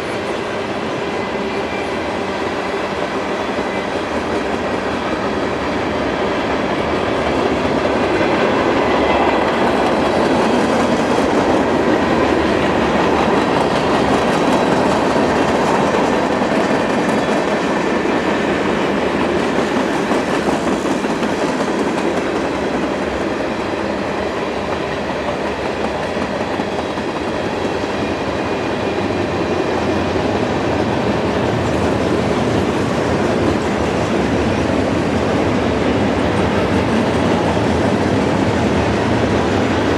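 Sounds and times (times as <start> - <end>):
train rolling on rails: 0.0 - 39.9.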